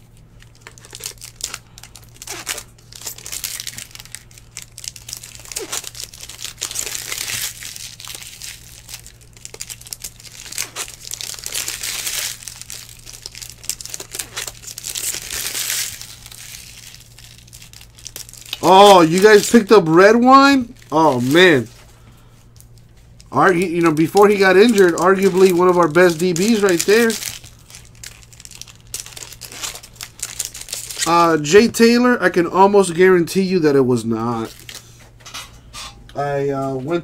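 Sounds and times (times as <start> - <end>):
foil wrappers crinkling and tearing: 0.0 - 35.2.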